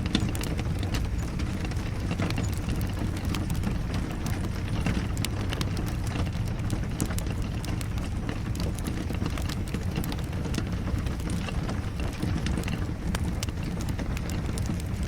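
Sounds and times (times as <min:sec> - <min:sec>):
fire crackling: 0:00.0 - 0:15.0
rain falling: 0:00.0 - 0:15.0.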